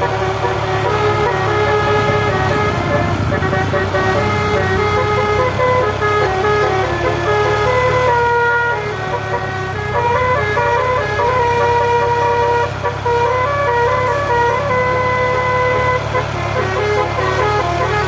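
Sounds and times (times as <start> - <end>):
bus horn playing a tune: 0.0 - 18.0
low hum of bus engine: 0.0 - 18.0.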